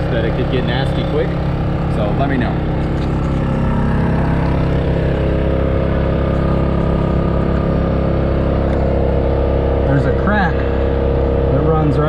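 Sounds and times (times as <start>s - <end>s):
generator engine droning: 0.0s - 12.0s.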